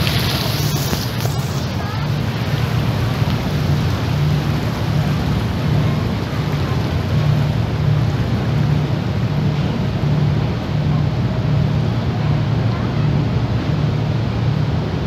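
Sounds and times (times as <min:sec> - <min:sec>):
churned water rushing: 0:00.0 - 0:15.0
ferry engines humming: 0:00.0 - 0:15.0
wind: 0:00.0 - 0:15.0.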